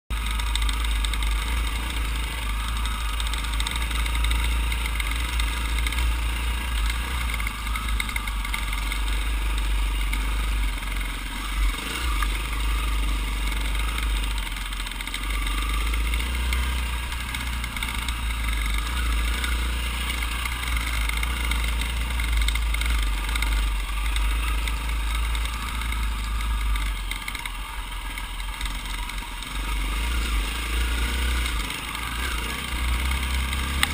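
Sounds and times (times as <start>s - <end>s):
dirt bike engine running: 0.1s - 33.9s.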